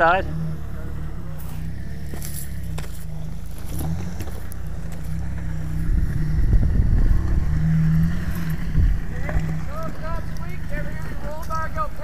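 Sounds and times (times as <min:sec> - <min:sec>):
off-road vehicle engine at low revs: 0:00.0 - 0:12.0.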